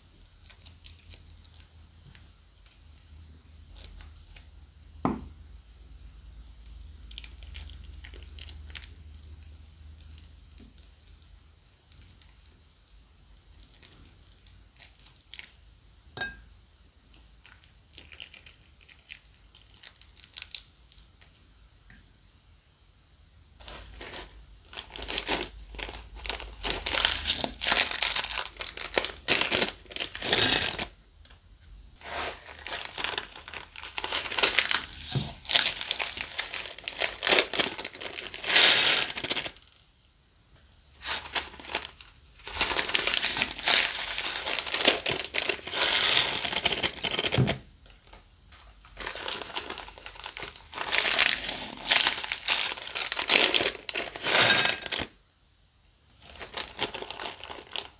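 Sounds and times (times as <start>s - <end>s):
crinkling of plastic and slime: 0.0s - 5.2s, 6.4s - 16.3s, 17.0s - 21.5s, 23.6s - 40.0s, 40.9s - 55.2s, 56.1s - 57.9s.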